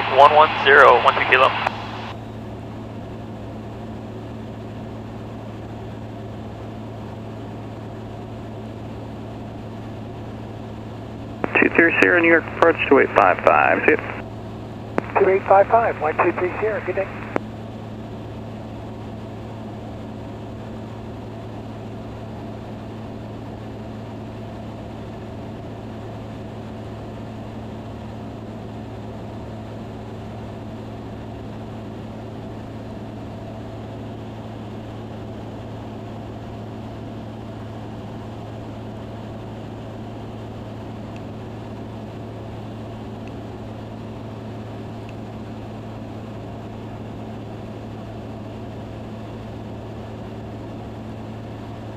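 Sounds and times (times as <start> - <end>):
light aircraft engine droning: 0.0 - 51.9.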